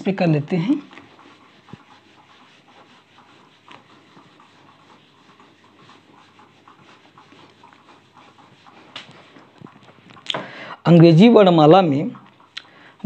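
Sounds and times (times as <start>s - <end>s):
duster scrubbing whiteboard: 0.0s - 13.0s.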